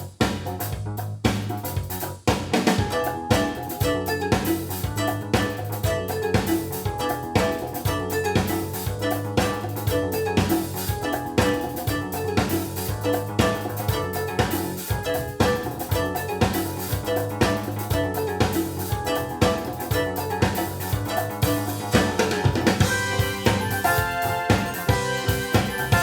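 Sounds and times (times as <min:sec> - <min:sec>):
bass line: 0:00.0 - 0:26.0
drum beat: 0:00.0 - 0:26.0
bright melody notes: 0:02.8 - 0:26.0.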